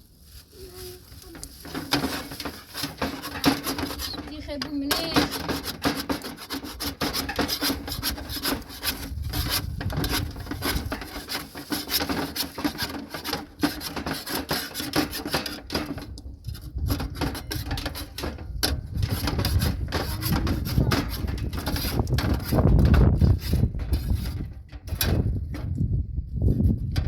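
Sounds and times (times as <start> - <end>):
rough scraping and rubbing: 0.0 - 25.8.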